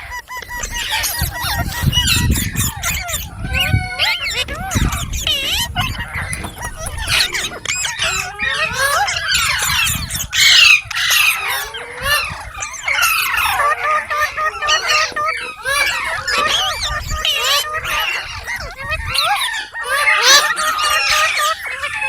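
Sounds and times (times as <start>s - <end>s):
parrot chirping and squawking: 0.0s - 22.0s.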